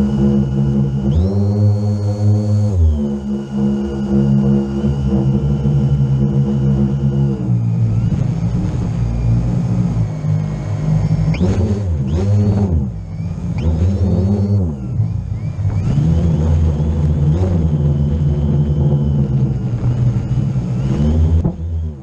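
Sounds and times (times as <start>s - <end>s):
drone motors humming: 0.0s - 22.0s.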